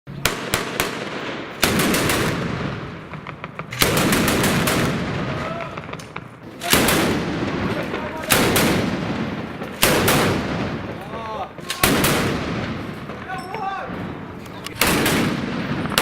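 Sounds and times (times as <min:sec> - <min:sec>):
automatic gunfire with echo: 0:00.2 - 0:13.3, 0:13.9 - 0:16.0.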